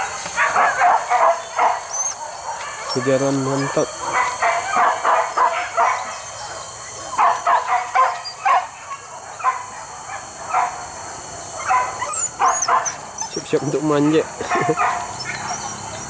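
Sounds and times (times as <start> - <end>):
dogs barking and yelping: 0.0 - 16.0.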